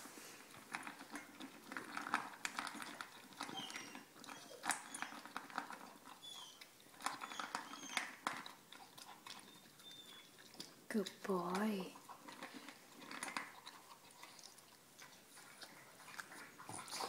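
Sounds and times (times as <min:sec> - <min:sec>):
dog crunching dry kibble: 0:00.3 - 0:17.0.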